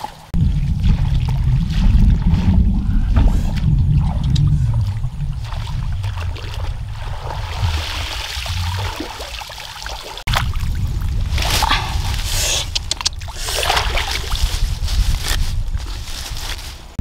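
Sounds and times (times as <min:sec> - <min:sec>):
water sloshing and splashing: 0:00.0 - 0:17.0
wind rumble on microphone: 0:00.3 - 0:09.6, 0:10.2 - 0:17.0
wet plants rustling: 0:00.4 - 0:17.0.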